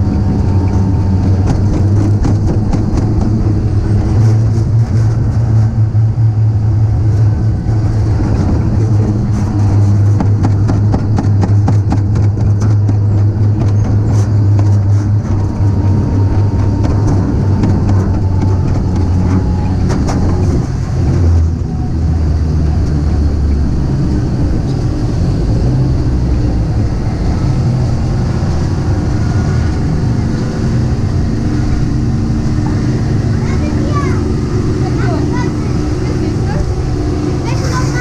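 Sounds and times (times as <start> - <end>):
bobsled cart rumbling on track: 0.0 - 38.0.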